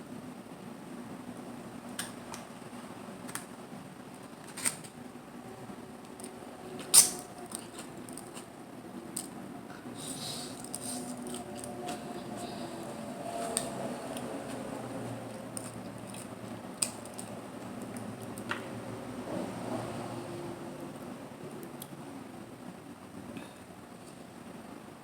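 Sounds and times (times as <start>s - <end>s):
soft noisy rustle: 0.0s - 25.0s.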